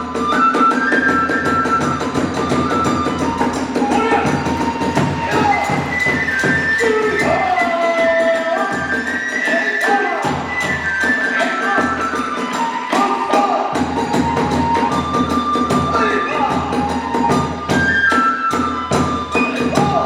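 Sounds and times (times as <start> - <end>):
drums beating: 0.0 - 9.3, 9.9 - 20.0
bamboo flute melody: 0.0 - 20.0.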